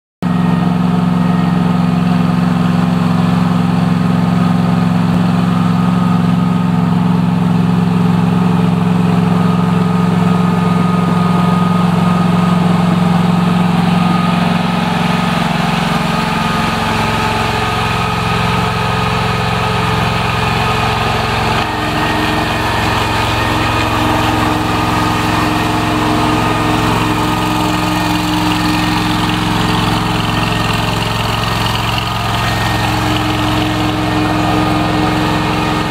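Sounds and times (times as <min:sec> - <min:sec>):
track loader engine running: 0:00.2 - 0:35.9.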